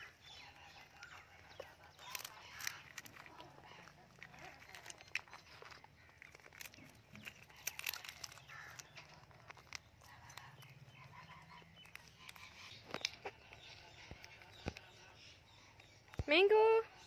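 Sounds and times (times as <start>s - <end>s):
peanut shell cracking: 0.0s - 16.3s
beak clicks: 0.2s - 16.5s.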